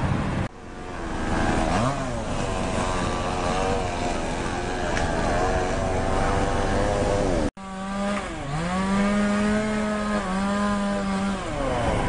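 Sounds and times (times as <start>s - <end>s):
chainsaw cutting a tree: 0.7s - 12.0s.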